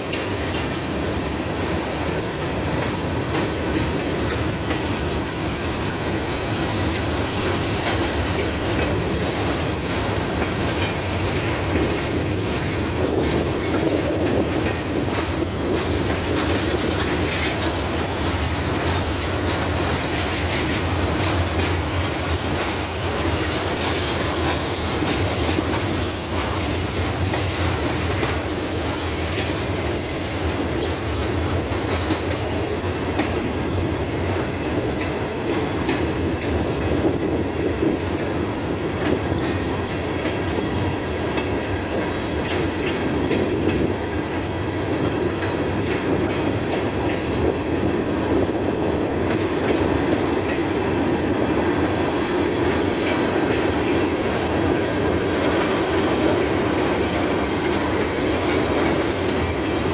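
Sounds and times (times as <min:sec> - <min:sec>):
steel wheels rumbling on rail: 0:00.0 - 0:59.9
wheels clicking over rail joints: 0:00.0 - 0:59.9.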